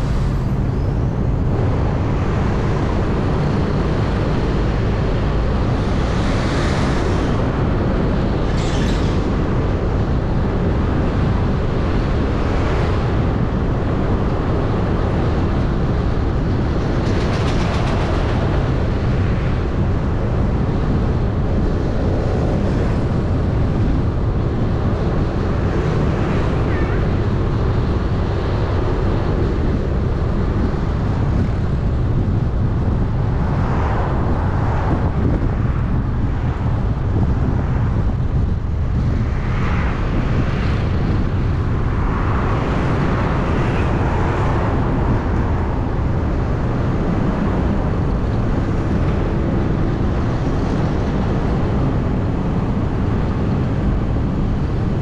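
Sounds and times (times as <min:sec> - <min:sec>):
passing traffic: 0:00.0 - 0:55.0
vehicle wind and road rumble: 0:00.0 - 0:55.0.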